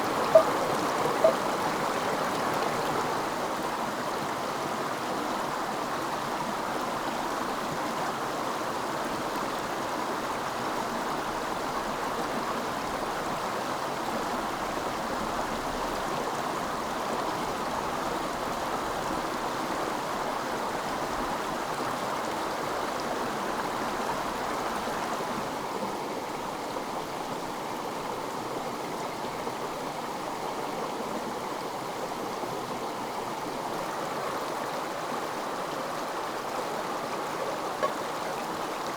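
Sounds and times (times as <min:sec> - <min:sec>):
water rushing in a stream: 0:00.0 - 0:38.9.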